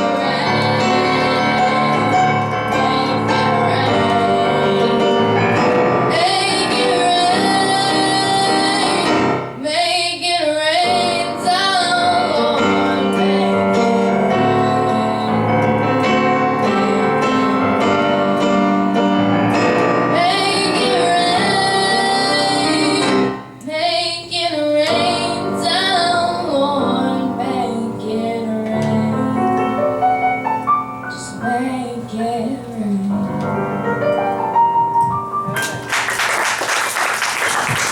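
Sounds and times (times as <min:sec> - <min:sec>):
piano accompaniment: 0:00.0 - 0:09.8, 0:10.6 - 0:23.6, 0:24.8 - 0:37.9
girl singing a slow ballad: 0:00.0 - 0:19.3, 0:20.0 - 0:29.8, 0:31.1 - 0:33.8.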